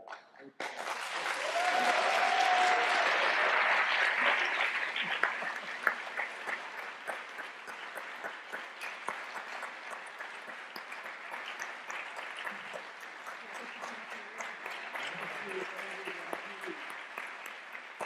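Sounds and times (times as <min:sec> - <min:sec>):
audience applauding: 0:00.6 - 0:18.0.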